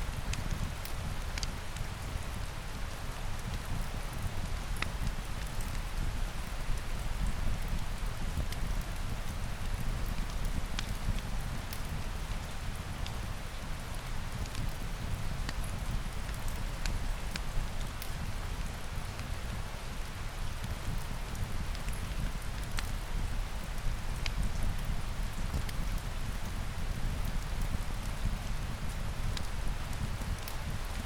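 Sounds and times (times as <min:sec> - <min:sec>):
steady rain: 0:00.0 - 0:31.0
wood fire crackling: 0:00.1 - 0:31.0.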